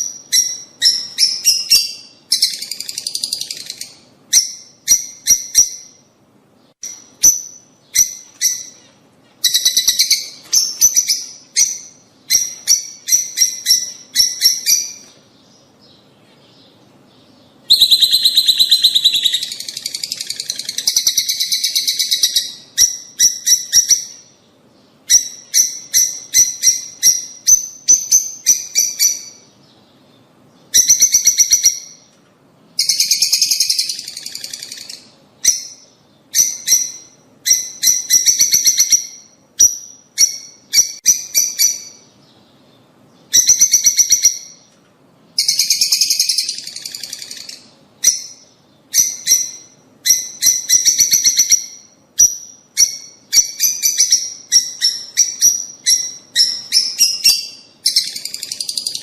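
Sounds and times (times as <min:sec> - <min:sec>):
lovebirds chirping and chattering: 0:00.0 - 0:32.2, 0:32.8 - 0:59.0.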